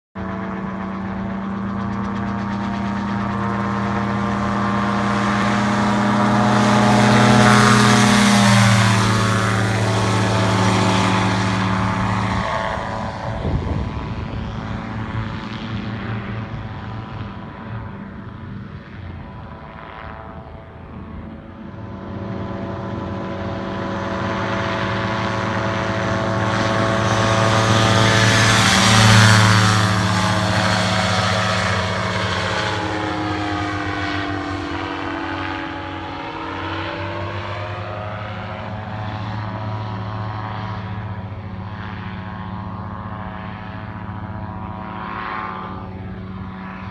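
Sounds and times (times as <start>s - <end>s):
aircraft engine and propeller droning: 0.2s - 46.9s.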